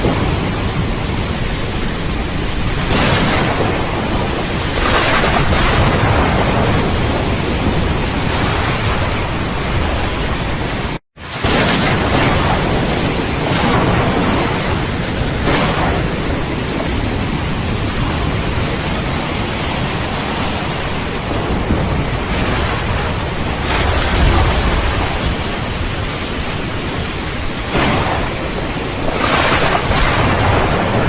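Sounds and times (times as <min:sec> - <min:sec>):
heavy rain: 0:00.0 - 0:31.0
rolling thunder: 0:00.0 - 0:31.0
thunder crackles: 0:00.0 - 0:31.0.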